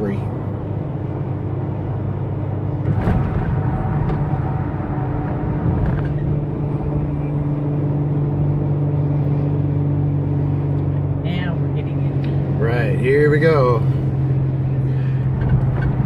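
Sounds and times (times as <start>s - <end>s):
car road and engine drone: 0.0s - 16.0s.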